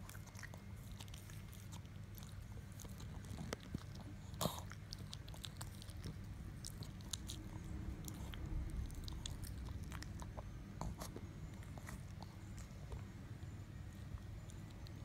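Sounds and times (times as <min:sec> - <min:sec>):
dog chewing a biscuit: 0:00.0 - 0:15.0.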